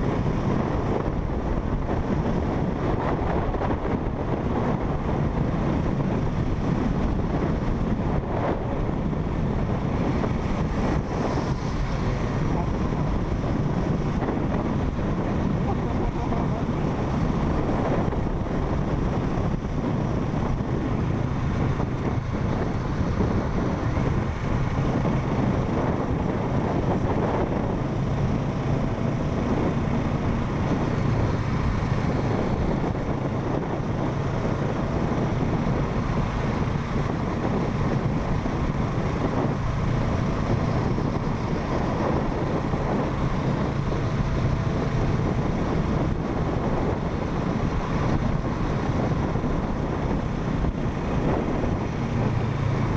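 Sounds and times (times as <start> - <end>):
motorcycle engine drone: 0.0 - 52.9
wind rushing on microphone: 0.0 - 52.9.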